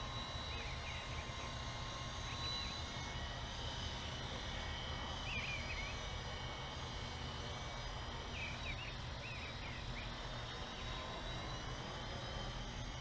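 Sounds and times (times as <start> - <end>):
rc helicopter rotor whine: 0.0 - 13.0.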